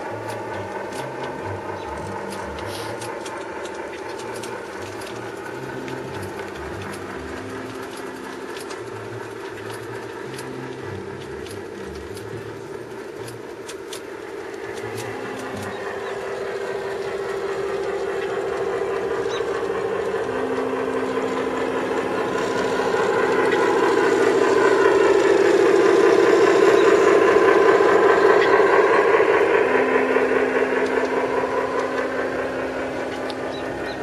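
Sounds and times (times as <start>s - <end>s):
electronic diesel engine sound: 0.0s - 34.0s
model train wheels clicking over joints: 0.0s - 34.0s.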